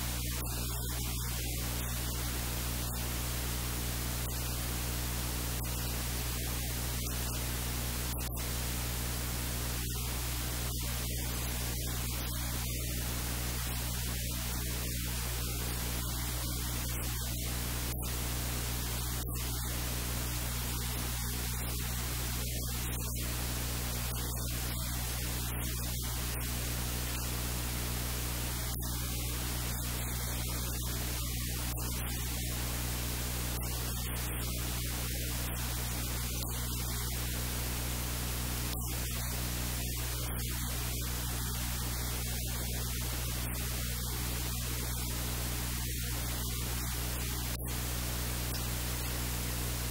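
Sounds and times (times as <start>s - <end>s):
low electrical hum: 0.0s - 49.9s
steady hiss: 0.0s - 49.9s.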